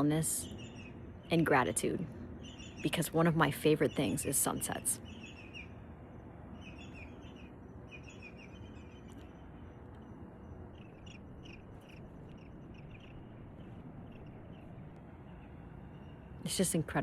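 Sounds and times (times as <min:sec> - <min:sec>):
low background hiss: 0:00.0 - 0:17.0
small birds chirping: 0:00.0 - 0:17.0.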